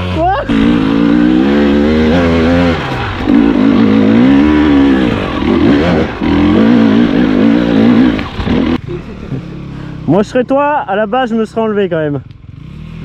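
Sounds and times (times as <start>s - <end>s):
dirt bike engine revving: 0.0s - 10.6s, 12.4s - 13.0s.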